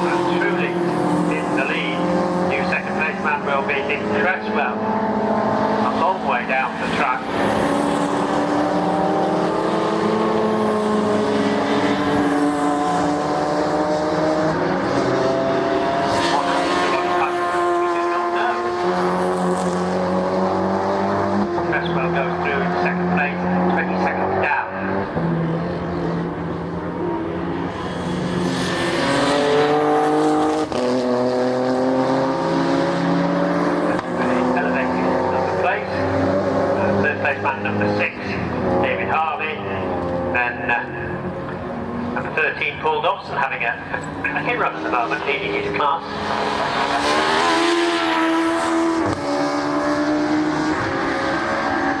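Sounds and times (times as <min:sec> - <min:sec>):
race car engine at high revs: 0:00.0 - 0:52.0.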